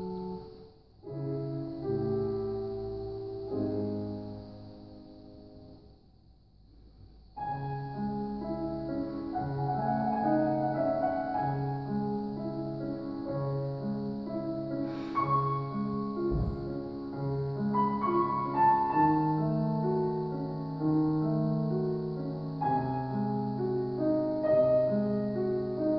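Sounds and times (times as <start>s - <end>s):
grand piano playing: 0.0s - 5.5s, 7.4s - 25.9s.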